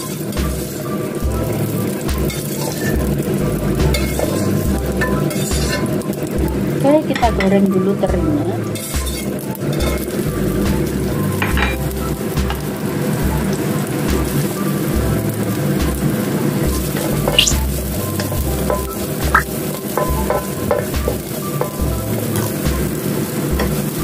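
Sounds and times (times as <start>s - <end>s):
wooden spatula scraping wok: 0.0s - 6.8s, 8.7s - 24.0s
fish sizzling in oil: 0.0s - 24.0s.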